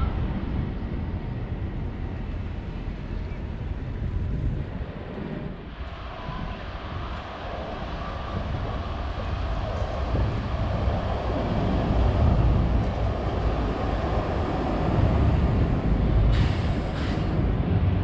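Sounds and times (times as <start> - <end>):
tram rumbling past: 0.0 - 18.0.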